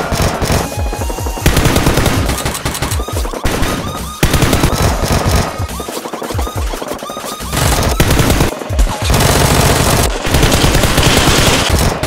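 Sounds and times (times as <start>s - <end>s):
automatic gunfire: 0.0s - 12.0s
background music: 0.0s - 12.0s.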